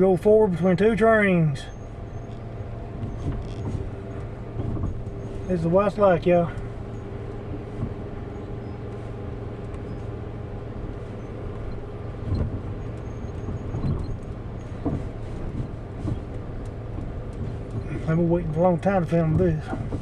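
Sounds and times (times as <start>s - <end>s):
engine and road rumble: 0.0s - 20.0s
low thumps from bumps: 2.4s - 20.0s.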